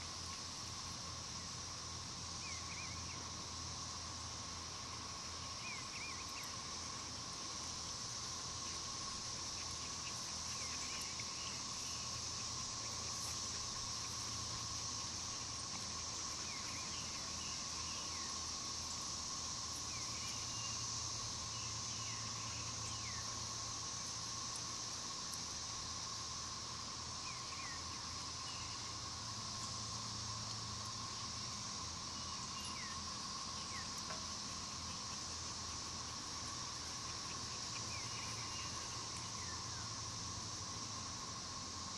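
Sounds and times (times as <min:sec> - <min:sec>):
high insect drone: 0:00.0 - 0:41.9
low steady whine: 0:00.0 - 0:41.9.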